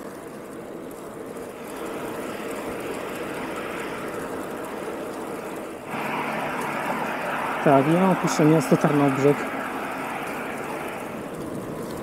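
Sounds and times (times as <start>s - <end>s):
wind and tyre hiss: 0.0s - 12.0s
motor traffic: 1.4s - 12.0s.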